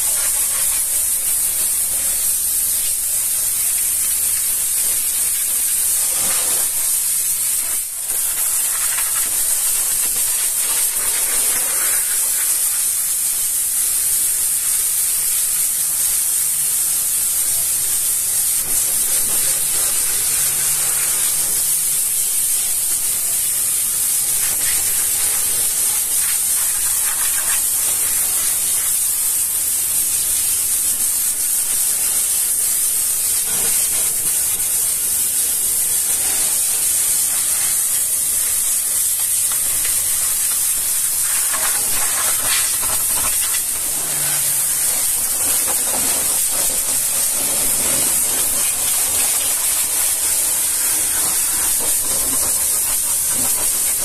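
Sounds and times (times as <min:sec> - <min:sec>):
pressure washer spraying: 0:00.0 - 0:54.0.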